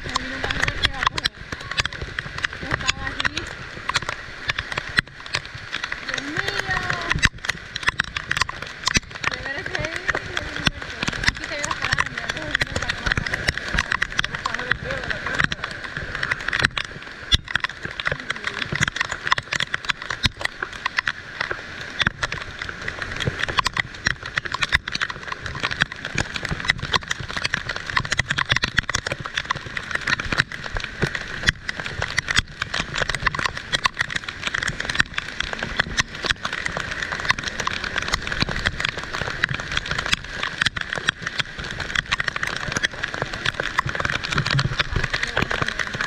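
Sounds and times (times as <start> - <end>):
heavy rain pattering: 0.0 - 46.0.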